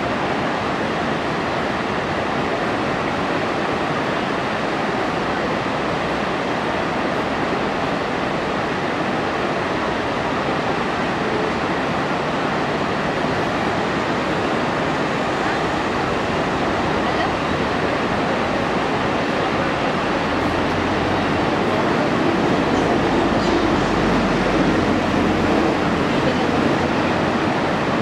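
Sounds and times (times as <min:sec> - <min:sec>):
river water rushing over weir: 0:00.0 - 0:28.0.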